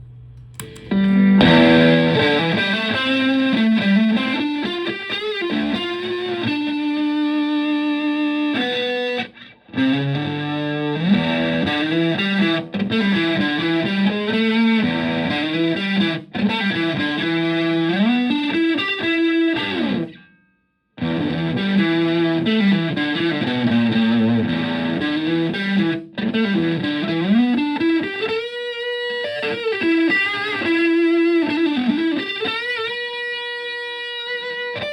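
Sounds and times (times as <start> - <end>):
fuzzy electric guitar riffs: 0.6 - 20.3, 21.0 - 34.9.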